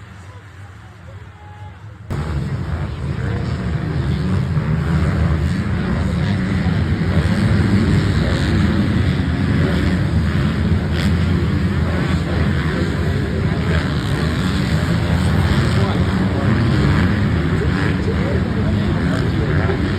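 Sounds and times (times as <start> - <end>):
dirt bike engines at full throttle: 0.0 - 19.9.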